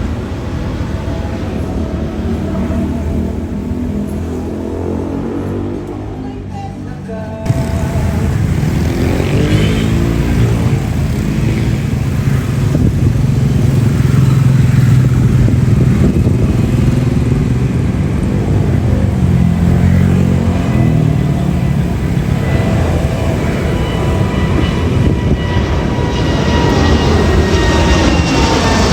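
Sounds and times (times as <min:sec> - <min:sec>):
jet engine roar: 0:00.0 - 0:06.6, 0:07.4 - 0:28.9
low droning tones bending in pitch: 0:00.0 - 0:28.9.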